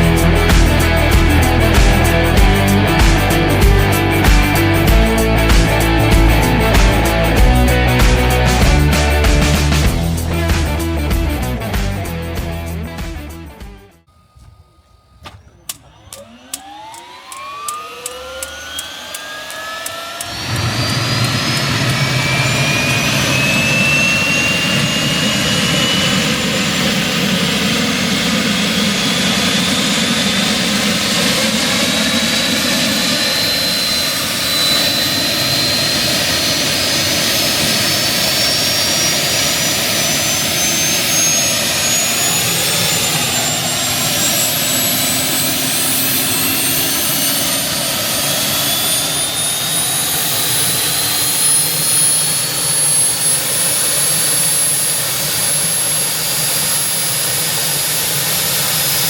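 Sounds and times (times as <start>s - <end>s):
second turbine whine rising: 0.0s - 11.0s, 14.1s - 59.0s
helicopter turbine engine starting: 0.0s - 12.5s, 14.0s - 59.0s.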